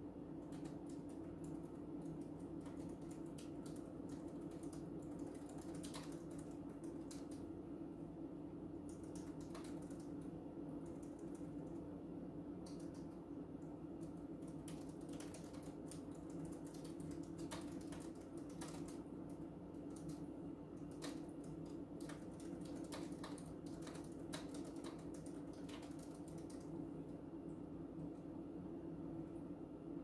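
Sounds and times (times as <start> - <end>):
low background hum: 0.0 - 30.0
typing on computer keyboard: 0.4 - 7.5, 8.8 - 11.9, 12.6 - 26.8.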